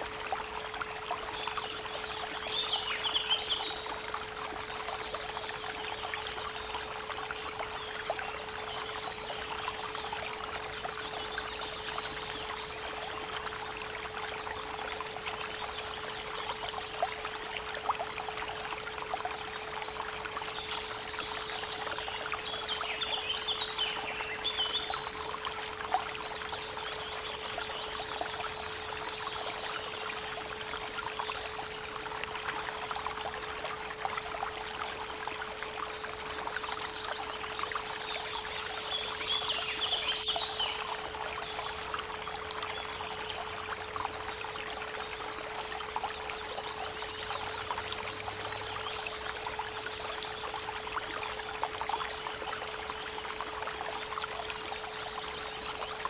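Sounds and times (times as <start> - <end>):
constant pure tone: 0.0 - 56.0
creek water running: 0.0 - 56.0
birds singing: 0.7 - 56.0.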